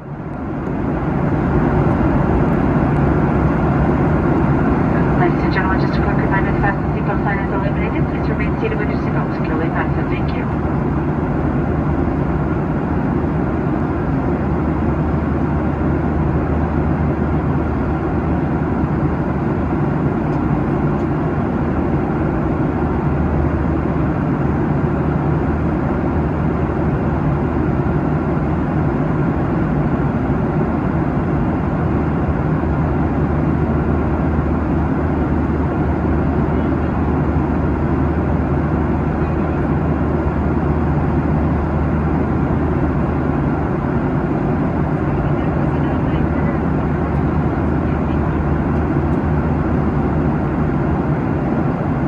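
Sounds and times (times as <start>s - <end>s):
jet engines droning: 0.0s - 52.0s.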